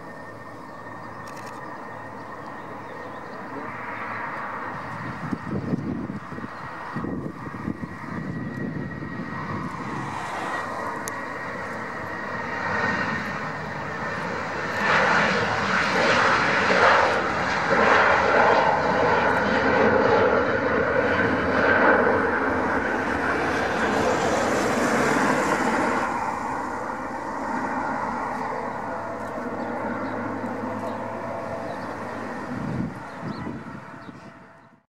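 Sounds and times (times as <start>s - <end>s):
jet engine roar with whine: 0.0s - 34.9s.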